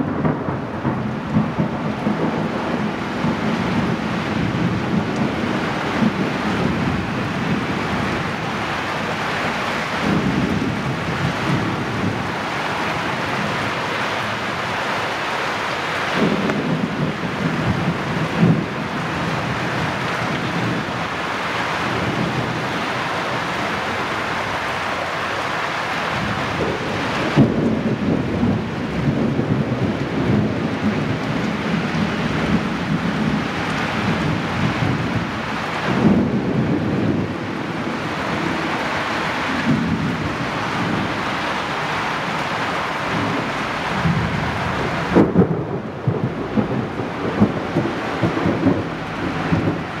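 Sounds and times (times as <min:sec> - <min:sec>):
thunder claps rumbling: 0:00.0 - 0:25.0, 0:26.1 - 0:50.0
heavy rain: 0:00.0 - 0:50.0.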